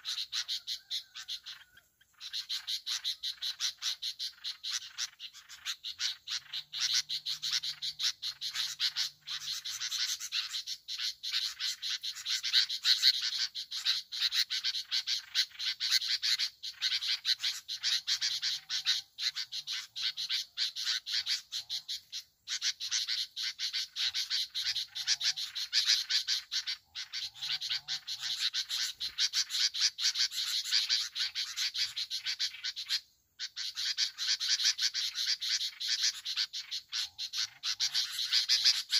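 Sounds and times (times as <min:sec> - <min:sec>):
chorus of calling frogs: 0:00.0 - 0:38.9.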